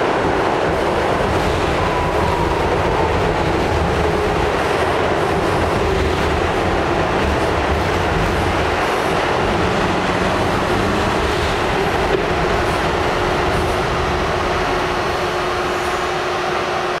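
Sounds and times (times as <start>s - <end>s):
subway wheels rumbling on track: 0.0s - 17.0s.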